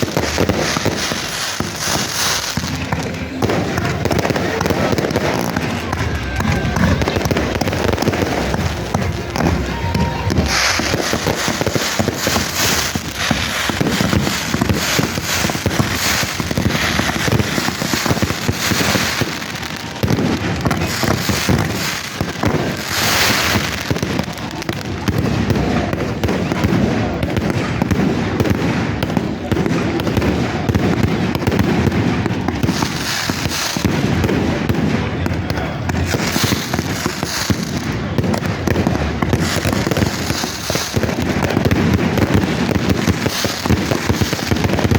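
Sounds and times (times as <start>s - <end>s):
fireworks cracking and banging: 0.0s - 44.9s
people's voices: 0.0s - 44.9s.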